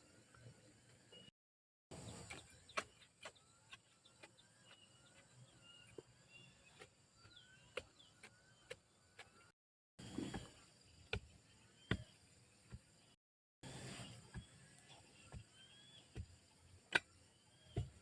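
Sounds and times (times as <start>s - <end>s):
faint birds chirping: 0.0s - 1.3s, 1.9s - 18.0s.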